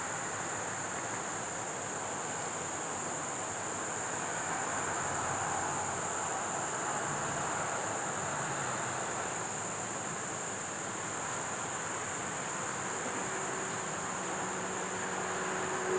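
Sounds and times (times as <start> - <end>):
continuous hiss: 0.0 - 15.9
insect chorus: 0.0 - 15.9.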